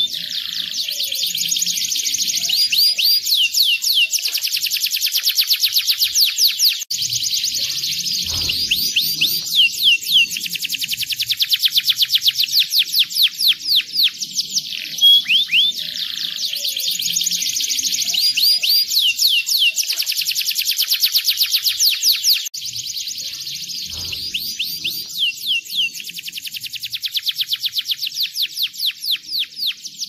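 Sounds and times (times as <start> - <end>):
canary singing trills: 0.0 - 30.0.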